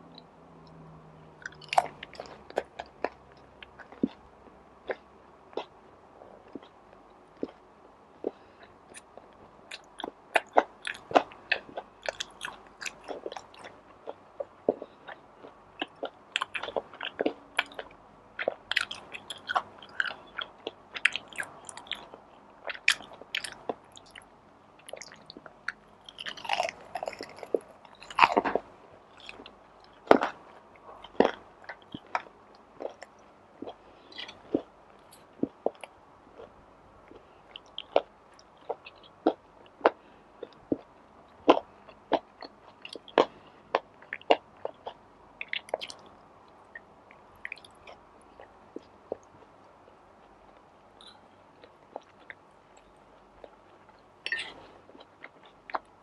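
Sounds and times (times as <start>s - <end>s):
person chewing crunchy food: 1.4s - 4.2s, 8.2s - 46.1s, 51.0s - 56.0s.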